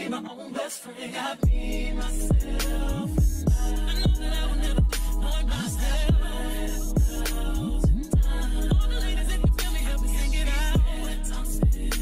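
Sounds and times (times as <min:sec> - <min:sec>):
person singing: 0:00.0 - 0:12.0
hip-hop beat with sliding bass: 0:01.4 - 0:12.0.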